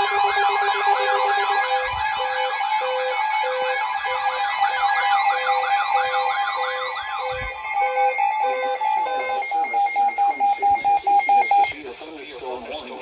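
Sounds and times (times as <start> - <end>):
electronic beeps: 0.0 - 11.8
electronic siren alert sweeps: 0.0 - 11.8
steady tone: 0.0 - 11.8.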